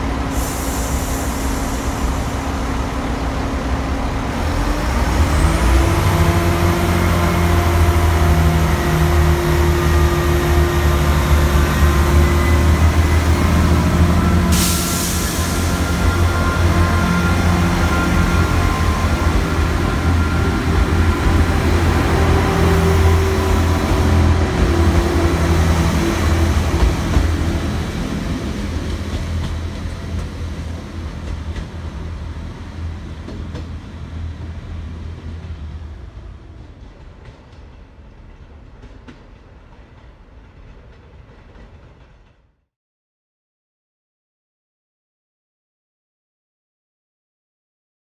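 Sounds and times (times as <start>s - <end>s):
diesel train engines running: 0.0s - 42.0s.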